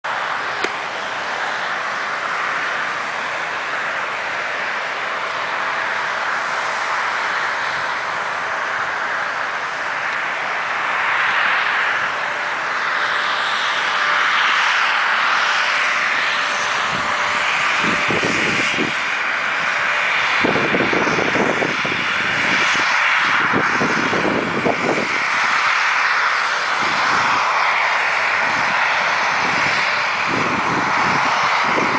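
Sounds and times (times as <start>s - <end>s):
snowmaking guns hissing: 0.1s - 31.9s.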